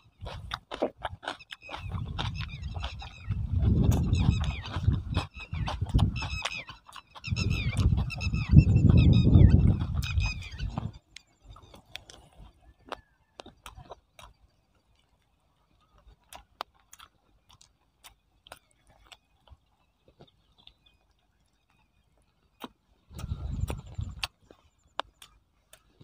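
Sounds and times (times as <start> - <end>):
person chewing with wet mouth clicks: 0.0 - 26.0.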